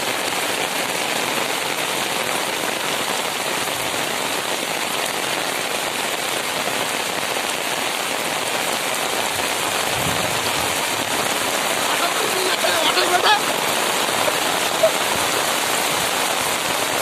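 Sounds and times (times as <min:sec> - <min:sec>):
heavy rain falling: 0:00.0 - 0:17.0
rain pattering on umbrella: 0:00.0 - 0:17.0.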